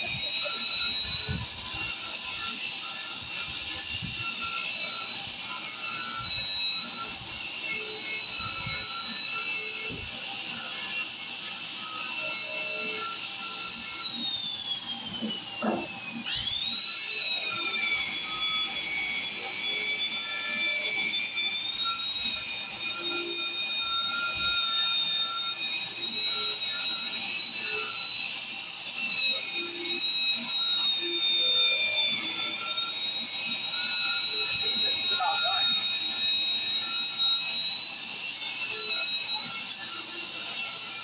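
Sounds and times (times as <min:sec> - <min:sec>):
angle grinder whining: 0:00.0 - 0:41.0.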